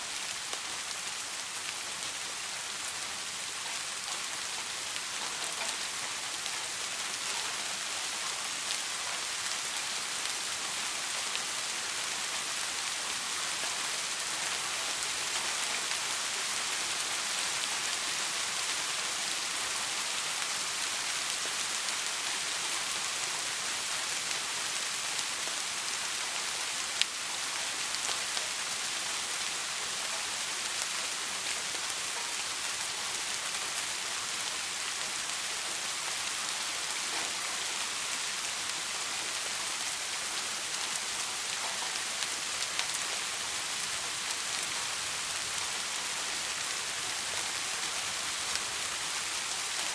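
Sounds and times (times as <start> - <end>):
soft rain hissing: 0.0 - 49.9.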